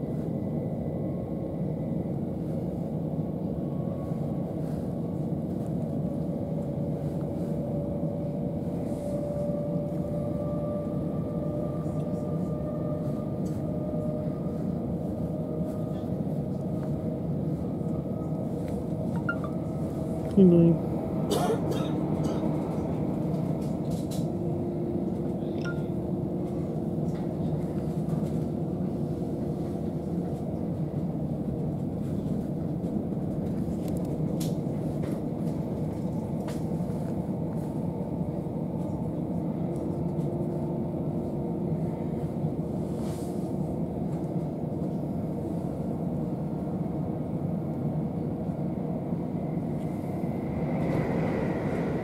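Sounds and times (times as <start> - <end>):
train hum: 0.0 - 52.0
train wheels rumbling on track: 0.0 - 52.0.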